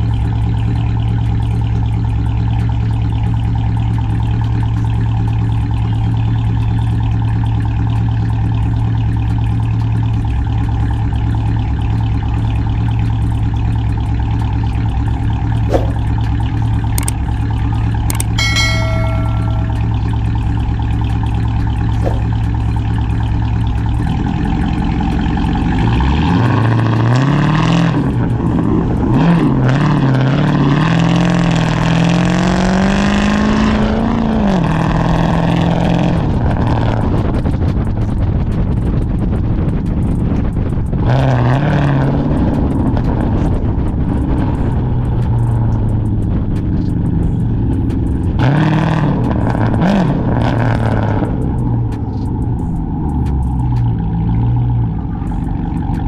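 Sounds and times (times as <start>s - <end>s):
car engine idling and pulling away: 0.0s - 56.0s.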